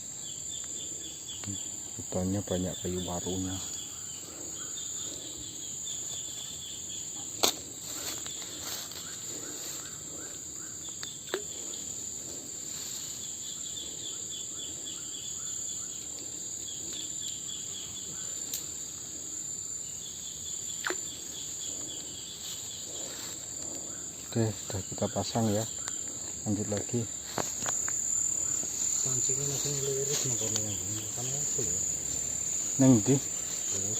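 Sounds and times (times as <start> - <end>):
high-pitched insect drone: 0.0 - 33.9
insect chirps: 0.0 - 33.9.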